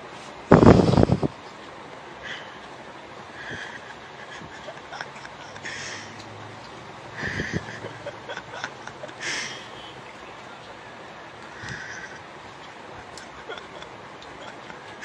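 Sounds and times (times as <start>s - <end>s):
steady background hiss: 0.0s - 15.0s
stifled breathy snickering: 2.2s - 15.0s.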